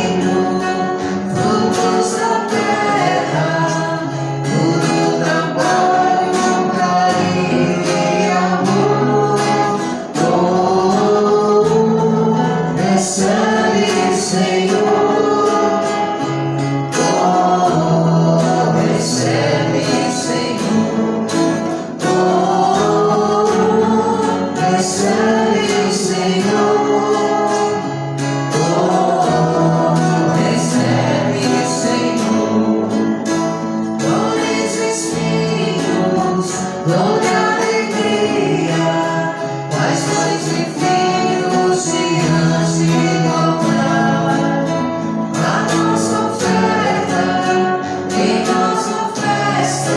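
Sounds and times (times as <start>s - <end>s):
choir singing a hymn: 0.0s - 49.9s
guitar: 0.0s - 49.9s.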